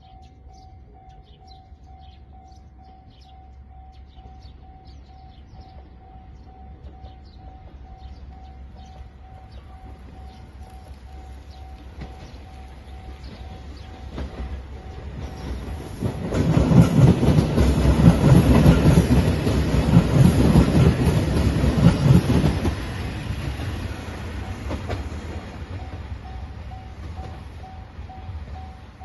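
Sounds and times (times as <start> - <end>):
diesel train passing: 0.0 - 29.0.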